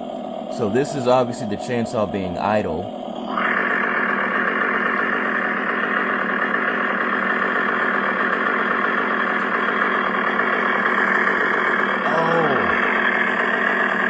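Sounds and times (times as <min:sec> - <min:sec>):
recorded chainsaw idle through speaker: 0:00.5 - 0:14.0.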